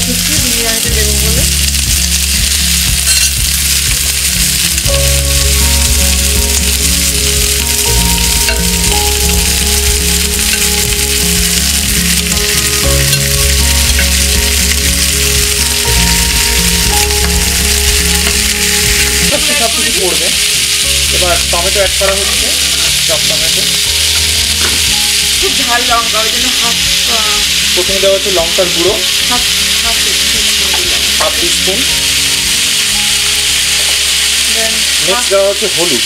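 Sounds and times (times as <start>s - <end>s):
onions and chicken sizzling in oil: 0.0s - 36.0s.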